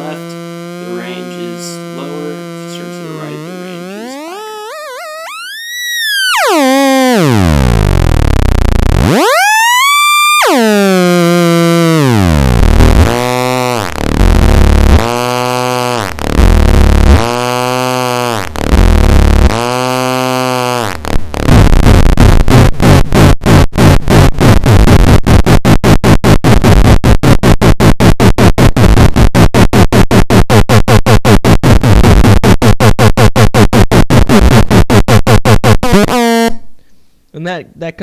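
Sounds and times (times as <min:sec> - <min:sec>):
harsh pulsing buzz: 0:00.0 - 0:36.7
theremin buzzy tone: 0:00.0 - 0:36.7.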